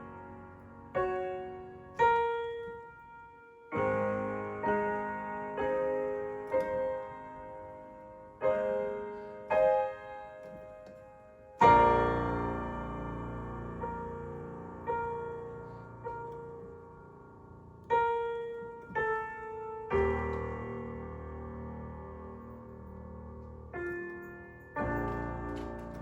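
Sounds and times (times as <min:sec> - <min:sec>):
piano chords: 0:00.0 - 0:26.0.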